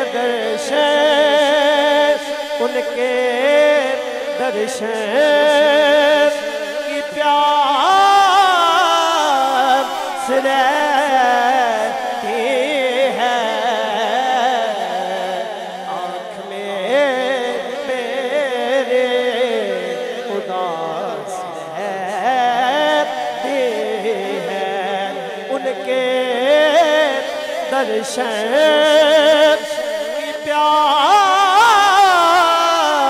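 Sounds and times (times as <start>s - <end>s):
man singing into a microphone: 0.0s - 33.0s.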